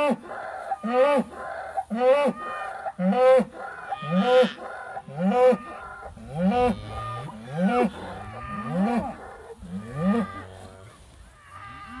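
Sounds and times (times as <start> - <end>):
cow bellowing: 0.0 - 12.0
cows lowing: 0.0 - 12.0.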